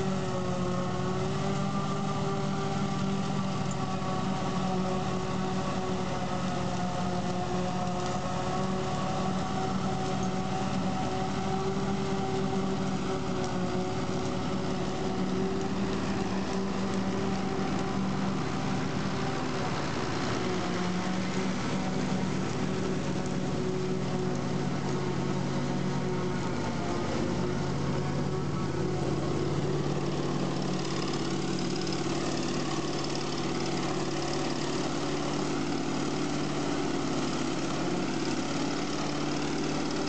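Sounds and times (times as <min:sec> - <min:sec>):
forage harvester whirring: 0:00.0 - 0:40.0
tractor engine drone: 0:00.0 - 0:40.0.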